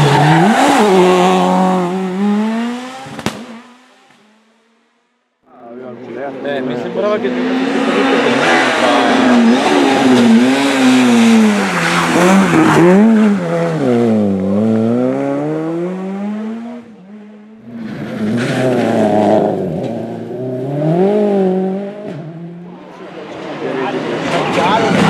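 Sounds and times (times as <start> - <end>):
rally car engine revving: 0.0 - 4.6, 6.3 - 25.0.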